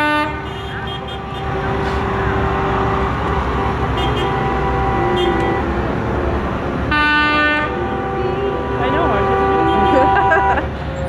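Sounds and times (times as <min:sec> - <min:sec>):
truck horn blast: 0:00.0 - 0:10.7
trucks rumbling past: 0:00.0 - 0:11.0.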